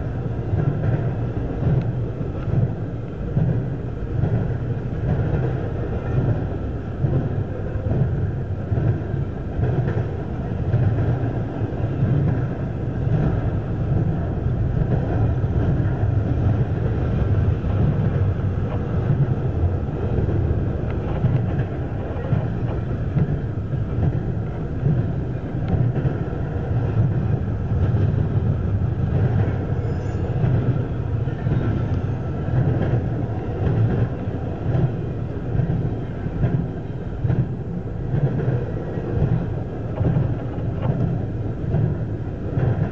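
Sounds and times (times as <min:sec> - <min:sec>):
freight train wheels rumbling on rails: 0:00.0 - 0:42.9.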